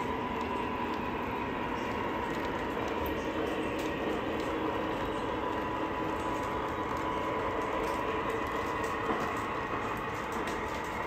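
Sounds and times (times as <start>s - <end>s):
model train wheels on rail: 0.0s - 11.0s
motor hum: 0.0s - 11.0s.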